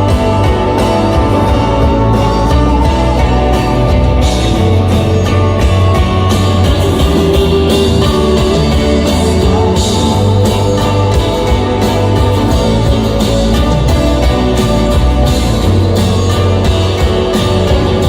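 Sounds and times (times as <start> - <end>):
electric guitar: 0.0 - 18.0
rock band playing live: 0.0 - 18.0.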